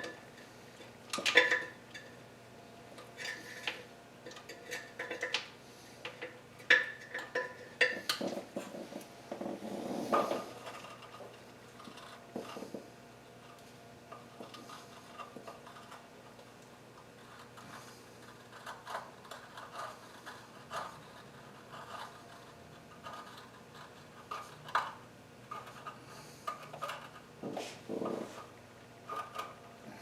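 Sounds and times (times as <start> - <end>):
hand tools clicking and scraping: 3.0 - 30.0.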